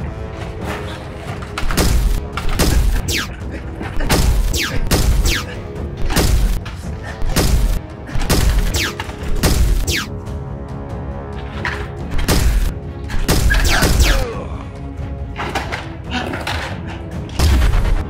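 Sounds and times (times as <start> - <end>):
dramatic action music: 0.0 - 18.0.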